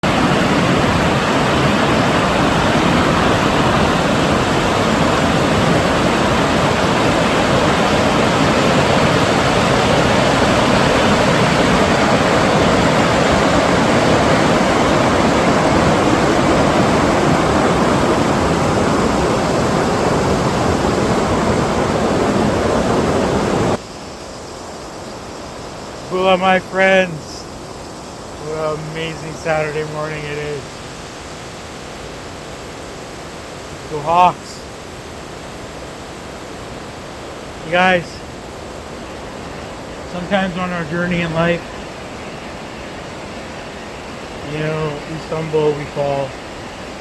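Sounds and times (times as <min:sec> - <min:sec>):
fast-flowing water rushing: 0:00.0 - 0:47.0.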